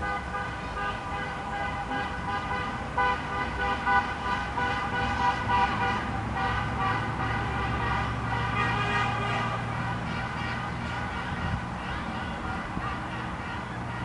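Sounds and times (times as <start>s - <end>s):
car horns honking: 0.0s - 14.0s
low rumble of traffic: 0.0s - 14.0s.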